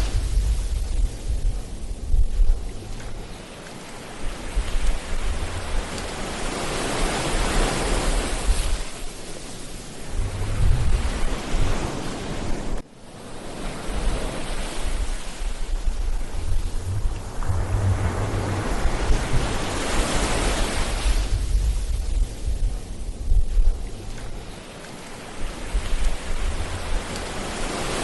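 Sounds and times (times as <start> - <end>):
ocean surf breaking on beach: 0.0 - 28.0
wind rumbling on microphone: 0.0 - 28.0.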